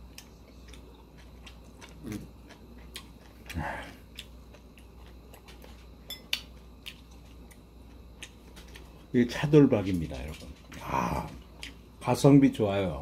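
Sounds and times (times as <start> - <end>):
man chewing food: 0.0 - 12.3.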